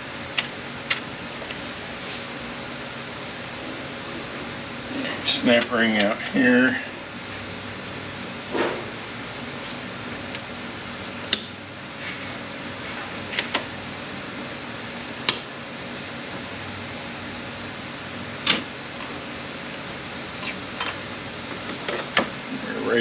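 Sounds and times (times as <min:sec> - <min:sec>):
fan-like hum: 0:00.0 - 0:23.0.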